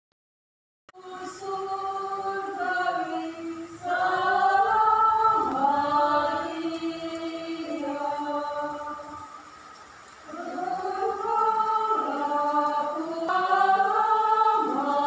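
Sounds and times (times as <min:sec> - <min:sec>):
choir singing a hymn: 0:01.0 - 0:09.4, 0:10.3 - 0:15.0.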